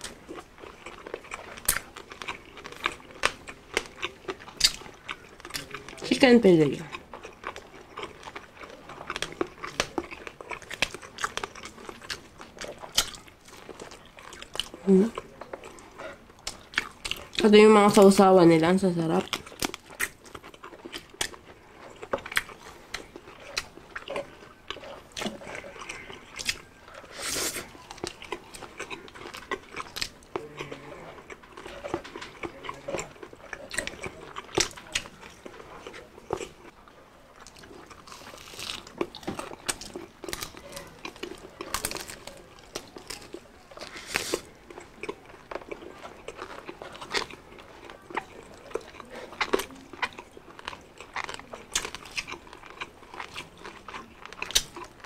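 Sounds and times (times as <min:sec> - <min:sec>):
people chewing crispy food: 0:00.0 - 0:55.0.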